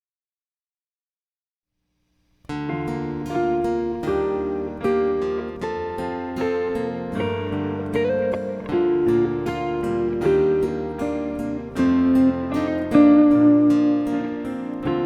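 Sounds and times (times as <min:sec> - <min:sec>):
acoustic guitar strumming chords: 0:02.5 - 0:15.0.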